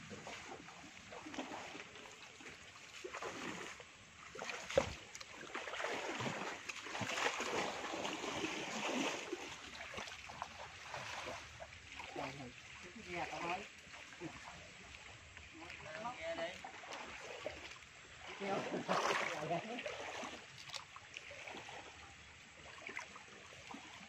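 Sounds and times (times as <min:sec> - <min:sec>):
water and mud sloshing: 0:00.0 - 0:24.0.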